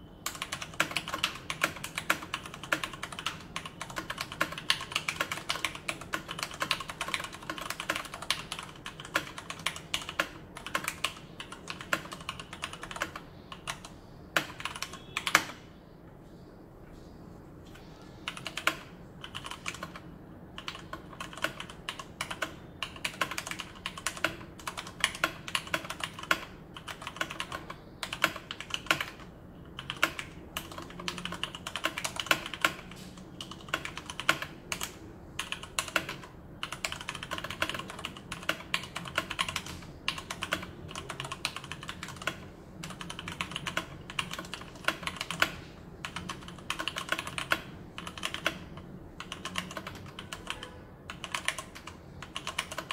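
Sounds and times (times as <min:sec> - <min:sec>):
mechanical keyboard typing: 0:00.2 - 0:15.7, 0:18.3 - 0:52.9.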